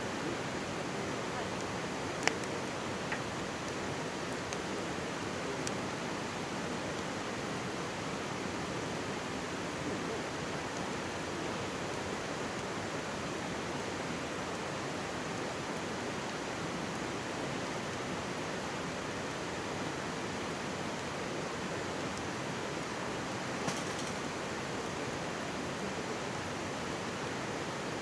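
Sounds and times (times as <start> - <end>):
campfire crackle: 0.0 - 27.2.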